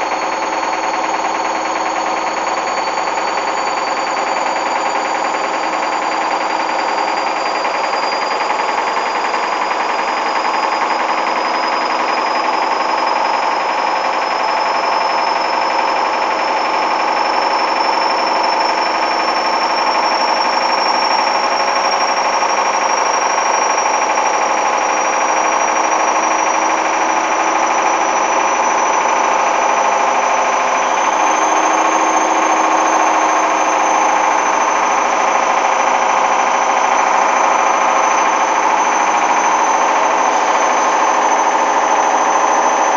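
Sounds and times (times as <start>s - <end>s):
washing machine spin whine: 0.0s - 42.9s.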